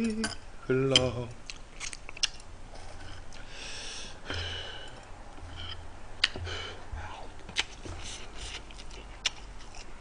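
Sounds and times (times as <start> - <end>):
soft chewing: 0.9 - 3.5, 4.3 - 10.0.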